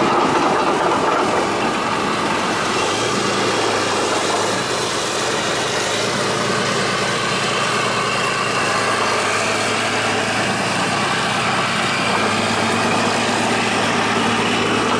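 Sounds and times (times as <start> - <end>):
tank diesel engine droning: 0.0 - 14.9.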